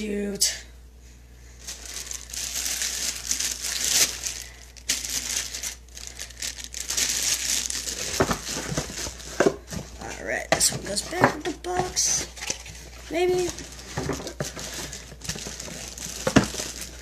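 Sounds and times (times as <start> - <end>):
plastic packaging crinkling: 1.5 - 17.0.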